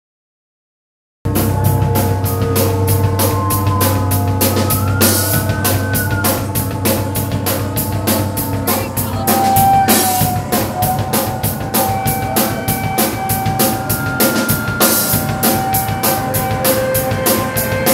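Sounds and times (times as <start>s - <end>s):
fast cymbal and drum hits: 1.3s - 17.9s
live rock band playing: 1.3s - 17.9s.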